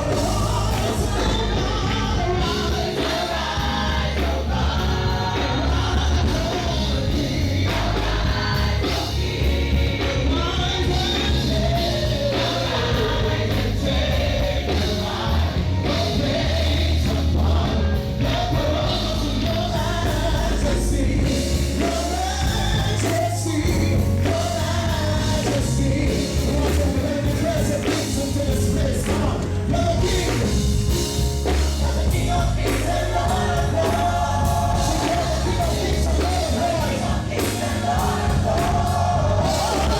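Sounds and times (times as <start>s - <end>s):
gospel band playing: 0.0s - 39.9s
people singing: 0.0s - 39.9s.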